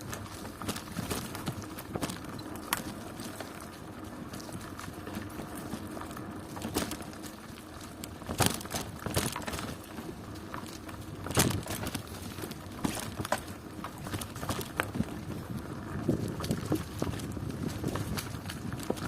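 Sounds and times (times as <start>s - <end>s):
bicycle rattling over bumps: 0.0s - 19.0s
bicycle tyres rumbling on road: 0.0s - 19.0s.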